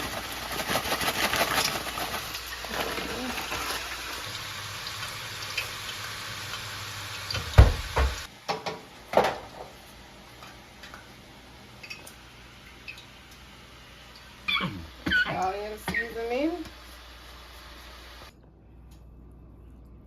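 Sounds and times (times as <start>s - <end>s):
steady kitchen hissing: 0.0s - 18.4s.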